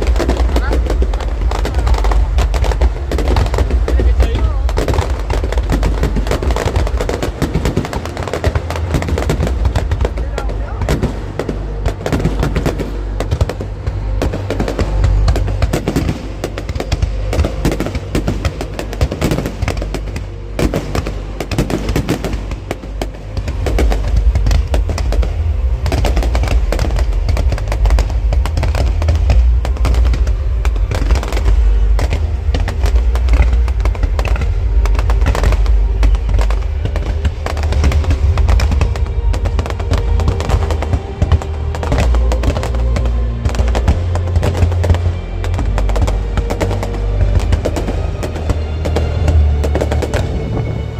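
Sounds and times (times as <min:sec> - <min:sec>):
fireworks bangs and crackles: 0:00.0 - 0:50.9
heavy low rumble: 0:00.0 - 0:50.9
music playing: 0:00.0 - 0:50.9.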